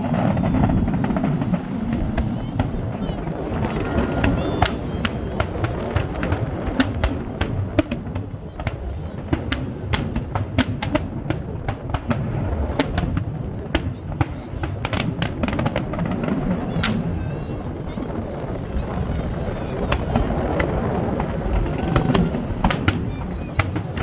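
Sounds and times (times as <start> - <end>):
continuous low rumble: 0.0 - 24.0
fireworks bangs and crackles: 0.0 - 24.0.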